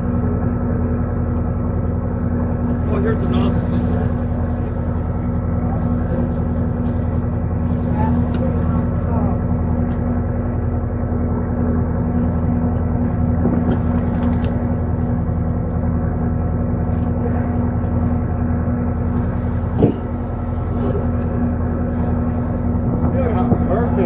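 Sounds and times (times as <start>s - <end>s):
marine engine running: 0.0s - 24.0s.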